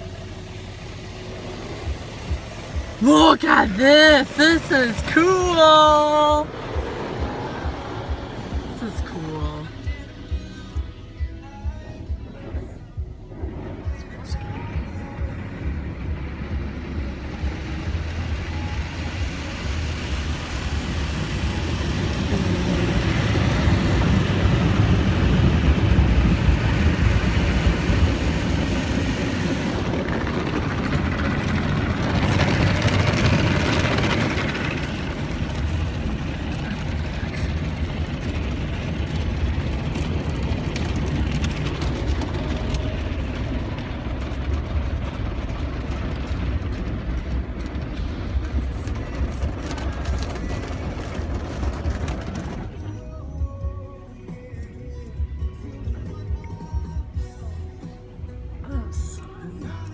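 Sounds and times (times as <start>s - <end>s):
water spray on car: 0.0s - 10.9s, 12.0s - 53.6s
steady low rumble: 0.0s - 59.9s.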